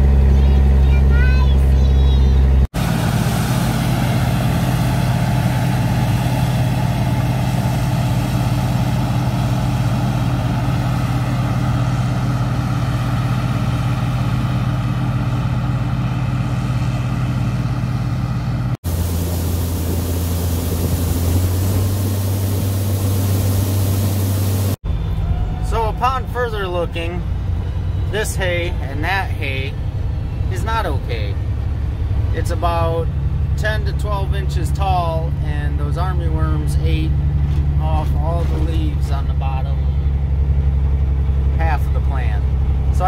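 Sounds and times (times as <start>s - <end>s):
combine engine drone: 0.0s - 43.0s.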